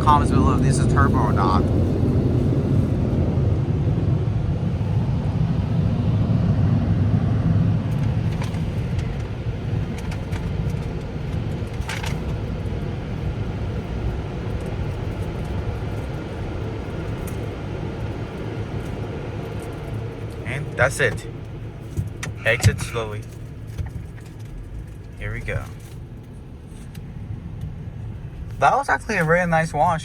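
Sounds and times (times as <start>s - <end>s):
car wash dryer blowers: 0.0s - 30.0s.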